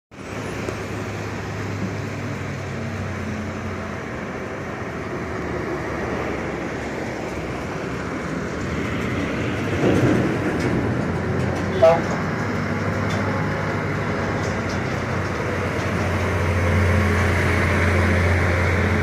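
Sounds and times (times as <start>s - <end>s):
lorry diesel engines: 0.1s - 19.0s
lorry passing close by: 0.2s - 19.0s.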